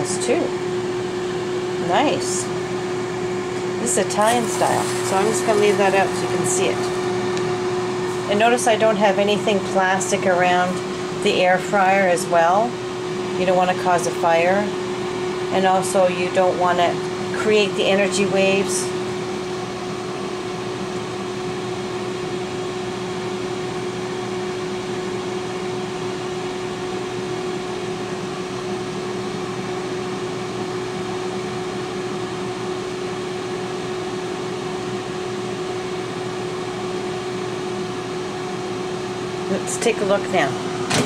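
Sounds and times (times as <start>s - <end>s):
air fryer fan whirring: 0.0s - 41.0s.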